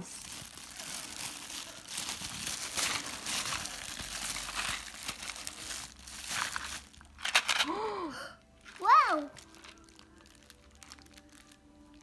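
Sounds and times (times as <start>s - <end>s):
plastic bag crinkling: 0.0s - 7.8s, 8.6s - 12.0s.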